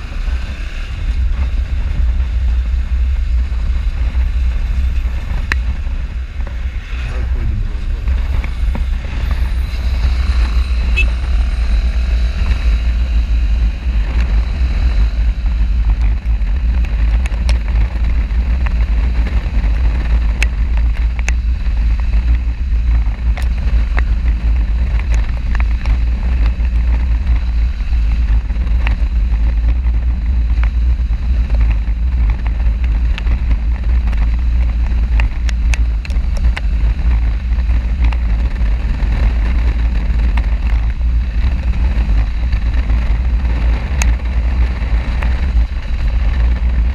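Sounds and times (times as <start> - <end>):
motorcycle engine and road noise: 0.0 - 46.9
wind rumble: 0.0 - 46.9.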